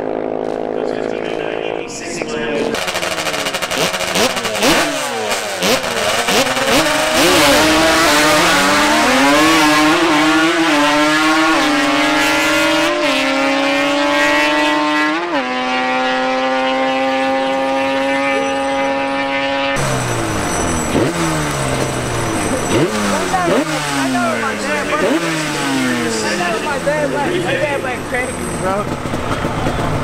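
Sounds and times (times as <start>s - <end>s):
quad engine revving: 0.0s - 30.0s.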